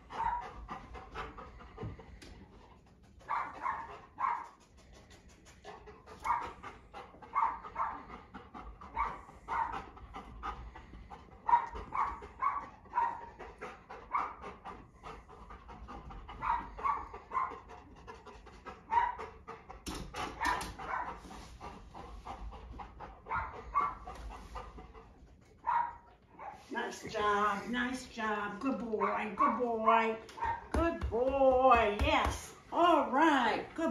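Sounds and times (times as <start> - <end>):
dog panting: 0.0 - 33.9.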